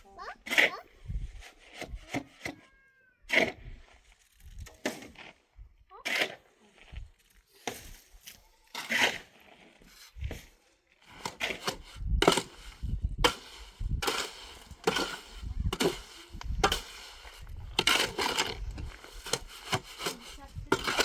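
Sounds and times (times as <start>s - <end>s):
irregular knocks and scraping: 0.2s - 2.6s, 3.4s - 21.0s.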